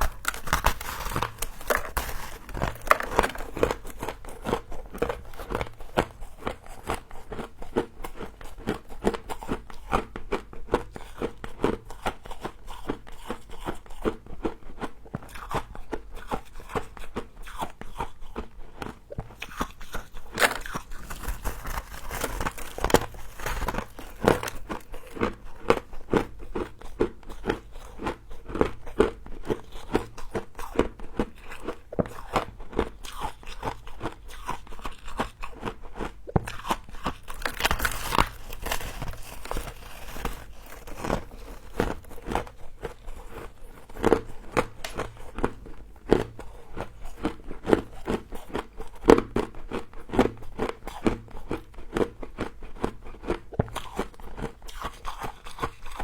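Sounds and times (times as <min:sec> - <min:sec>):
crunching and chewing frost: 0:00.0 - 0:56.0.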